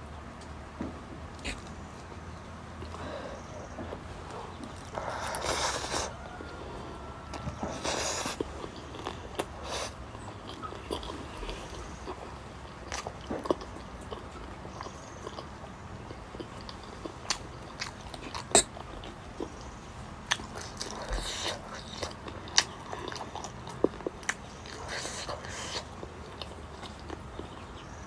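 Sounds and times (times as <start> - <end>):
person chewing food: 1.2 - 27.9.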